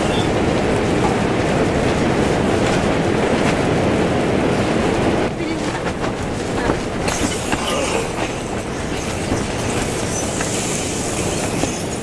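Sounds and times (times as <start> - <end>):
strong wind buffeting tent: 0.0 - 12.0
tent fabric flapping: 0.0 - 12.0.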